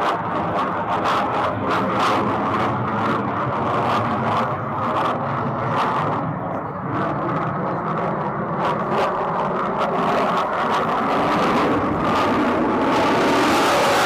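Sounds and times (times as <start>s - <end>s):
fighter jet engine rumble: 0.0s - 14.0s.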